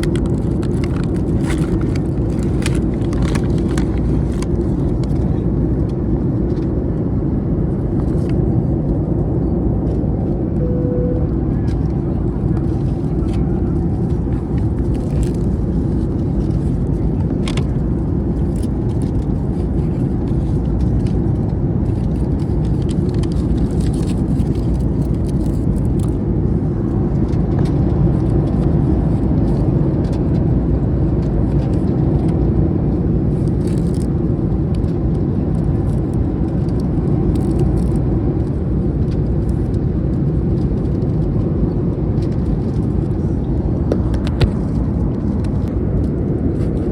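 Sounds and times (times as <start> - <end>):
airliner cabin rumble: 0.0 - 46.9.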